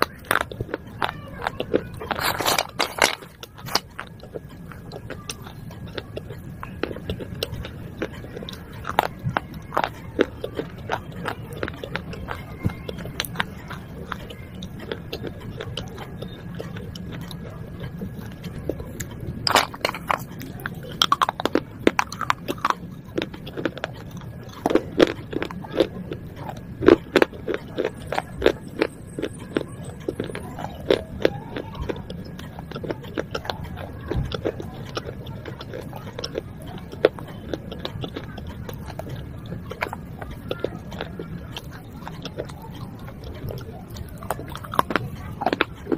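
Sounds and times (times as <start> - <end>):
chewing crunchy shards: 0.0 - 45.9.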